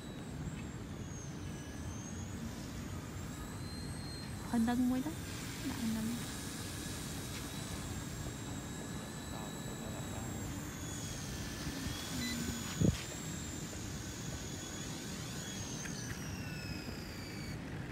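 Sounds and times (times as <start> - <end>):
rc helicopter rotor whining: 0.0 - 17.9.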